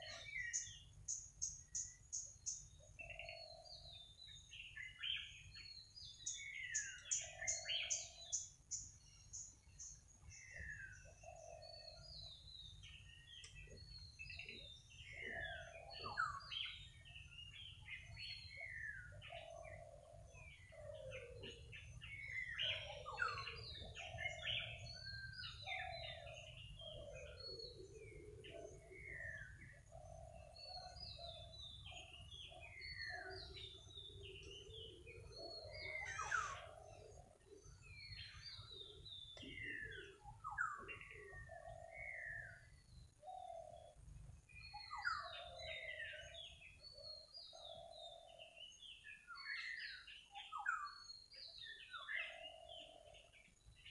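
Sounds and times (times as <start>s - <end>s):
wild birds chirping: 0.0s - 53.9s.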